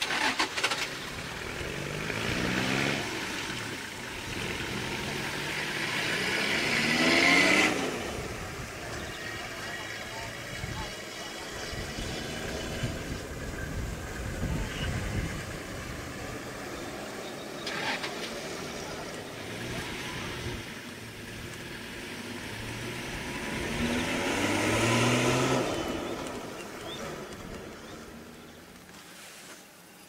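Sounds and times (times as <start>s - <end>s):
vehicle engine running and revving: 0.0s - 28.9s.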